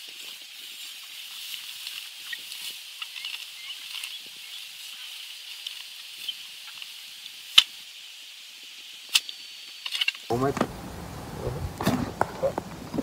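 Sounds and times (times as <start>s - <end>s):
insects calling: 1.5s - 8.2s, 8.9s - 13.0s.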